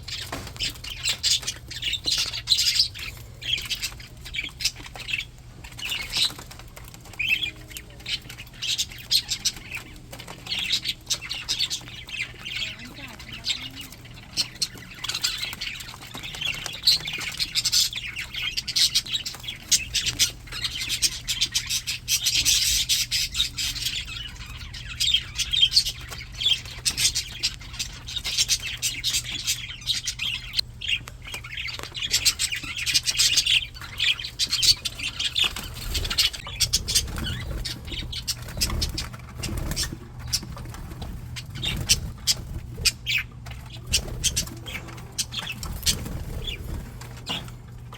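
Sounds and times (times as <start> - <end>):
budgies chattering: 0.0 - 47.9.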